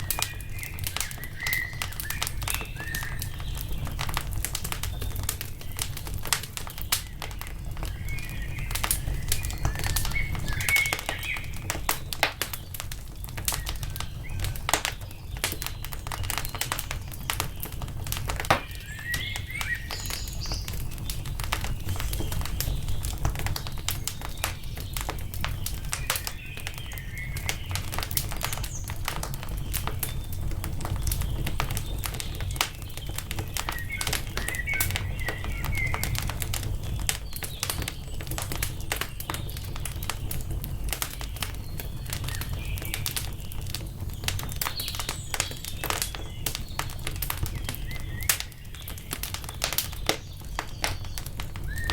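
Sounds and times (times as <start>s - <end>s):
small birds chirping: 0.0s - 51.9s
wood fire crackling: 0.0s - 51.9s.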